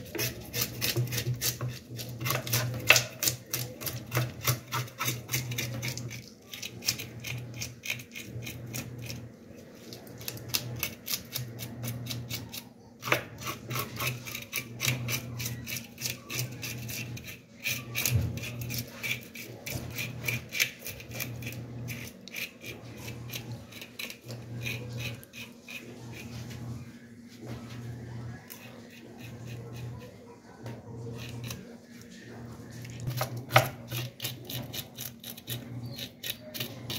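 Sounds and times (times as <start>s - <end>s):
knife scraping fish scales: 0.0s - 9.2s, 9.8s - 26.6s, 31.0s - 31.7s, 33.0s - 36.9s.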